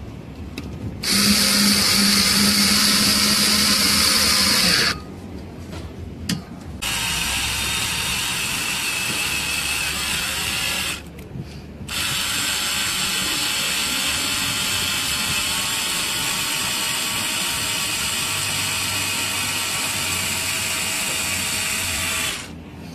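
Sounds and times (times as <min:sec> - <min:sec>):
cordless screwdriver running: 0:01.0 - 0:05.0, 0:06.8 - 0:11.0, 0:11.9 - 0:22.5.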